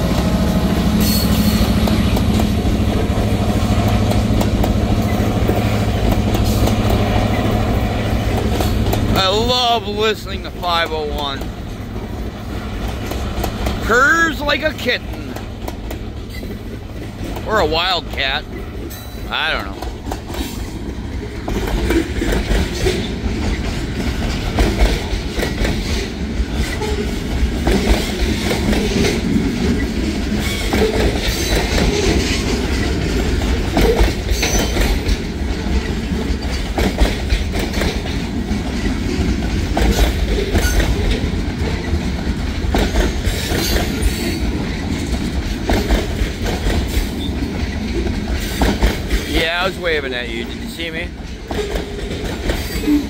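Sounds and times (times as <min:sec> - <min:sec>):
steel wheels rumbling on rails: 0:00.0 - 0:53.0
wheels clacking over rail joints: 0:00.0 - 0:53.0.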